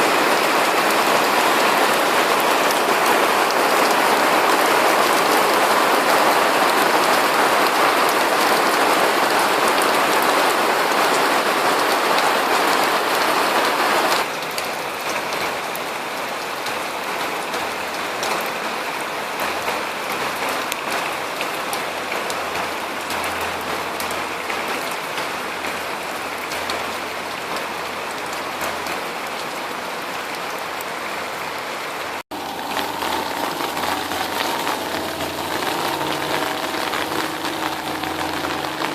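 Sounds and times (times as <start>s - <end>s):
rain on hard surfaces: 0.0s - 38.9s.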